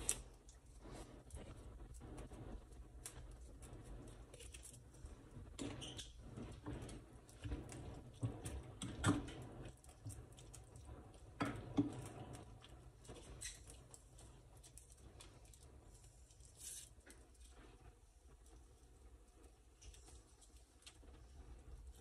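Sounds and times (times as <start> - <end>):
wet squishing of mixing food: 0.0 - 19.0.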